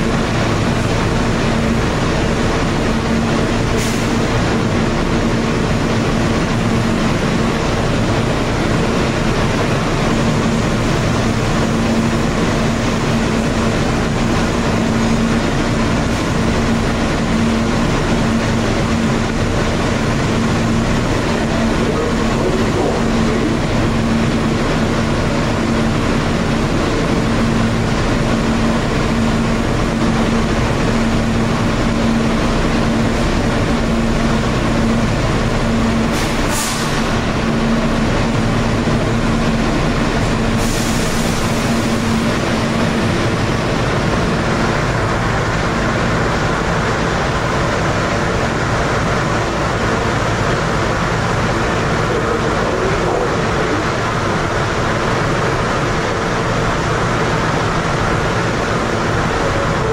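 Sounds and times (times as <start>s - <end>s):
subway car wheels rumbling: 0.0s - 59.9s.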